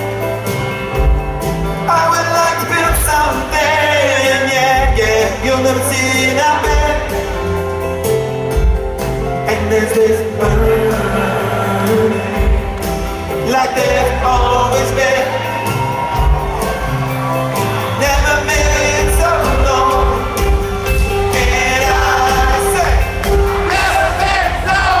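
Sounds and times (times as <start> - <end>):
rock band playing live: 0.0 - 25.0
person singing: 1.7 - 25.0.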